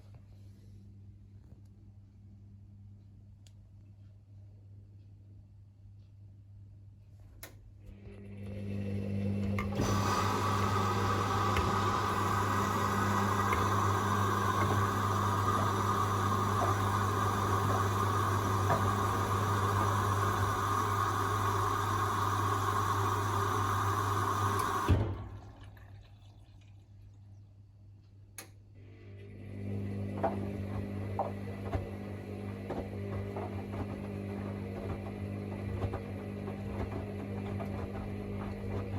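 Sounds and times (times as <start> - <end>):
washing machine hum: 0.0 - 38.9.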